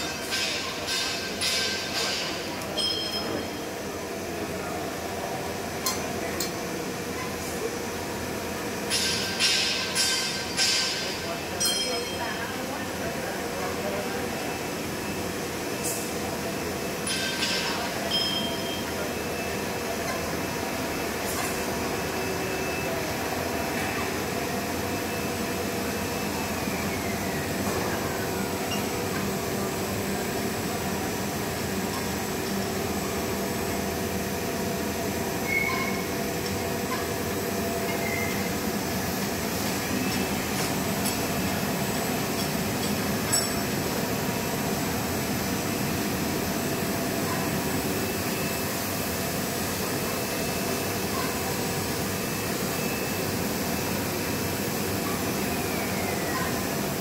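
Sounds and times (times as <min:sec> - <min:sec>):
machine motors humming and whirring: 0:00.0 - 0:57.0.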